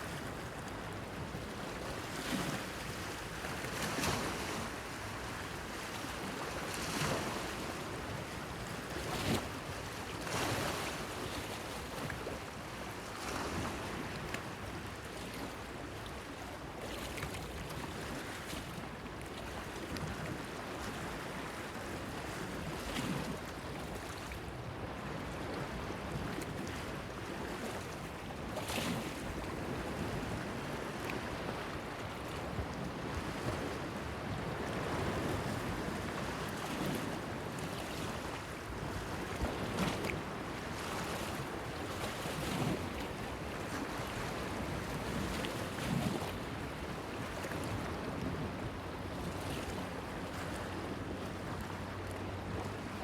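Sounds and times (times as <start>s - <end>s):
small waves lapping against a pier: 0.0s - 53.0s.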